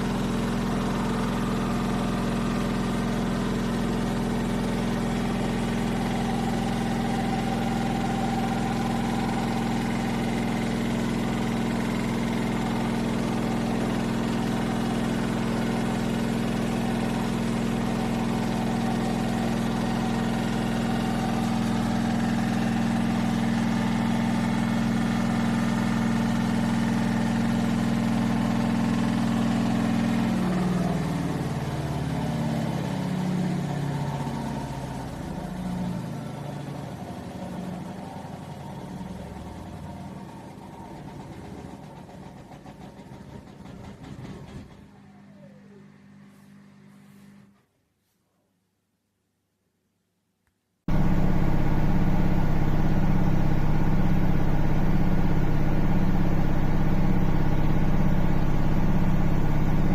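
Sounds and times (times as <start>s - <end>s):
washing machine motor hum: 0.0s - 47.3s, 50.9s - 59.9s.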